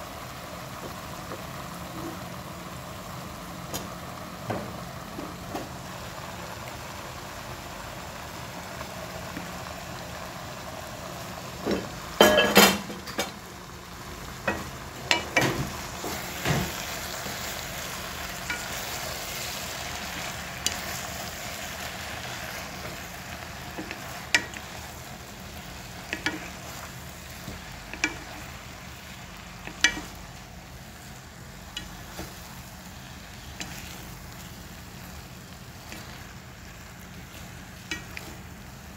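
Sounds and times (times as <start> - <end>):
spinach sizzling in a pan: 0.0 - 38.9.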